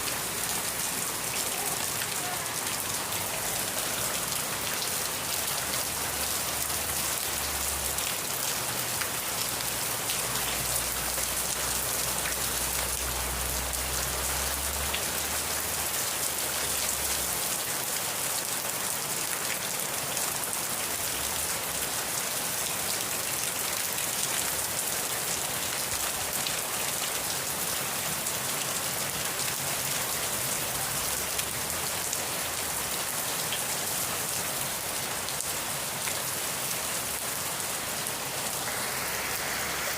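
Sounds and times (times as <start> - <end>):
heavy rain spattering: 0.0 - 39.9.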